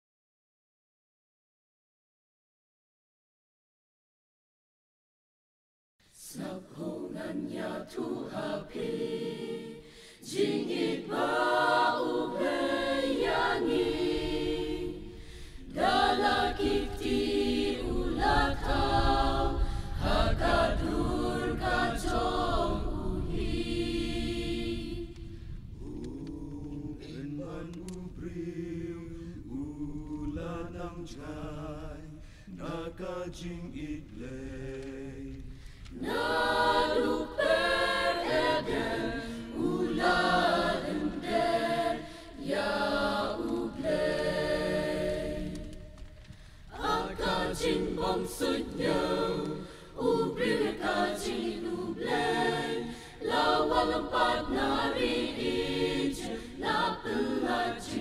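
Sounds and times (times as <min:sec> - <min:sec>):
mixed choir singing: 0:06.2 - 0:58.0.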